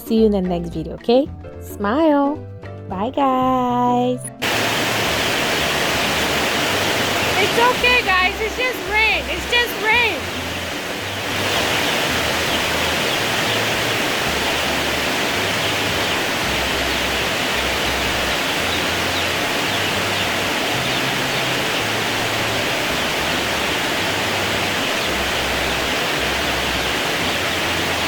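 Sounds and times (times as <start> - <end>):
heavy rain pouring: 4.4 - 28.0.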